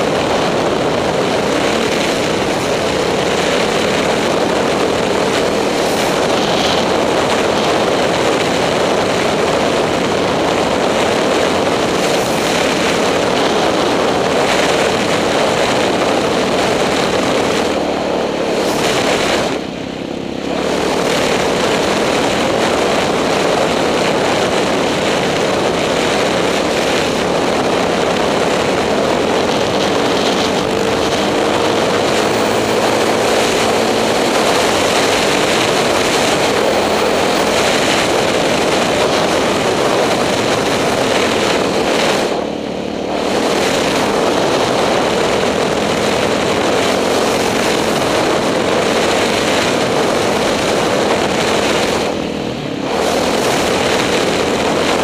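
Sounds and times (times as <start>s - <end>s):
motorcycle engine running hard: 0.0s - 55.0s
wind noise: 0.0s - 55.0s.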